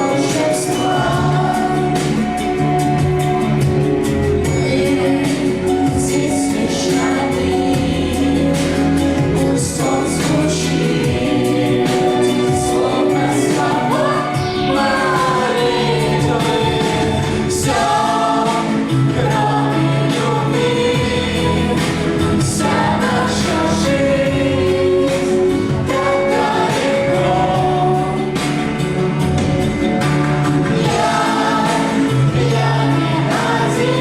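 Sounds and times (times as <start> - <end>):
song with sung vocals: 0.0 - 34.0.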